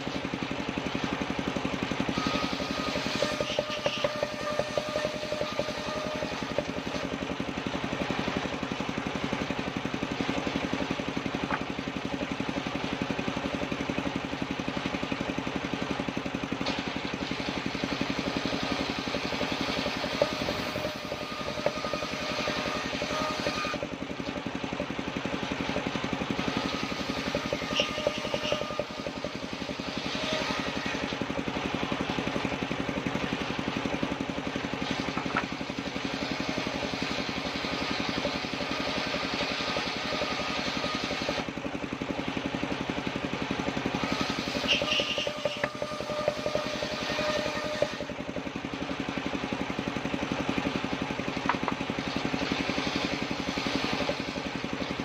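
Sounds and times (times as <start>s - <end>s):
circular saw engine running: 0.0s - 55.0s.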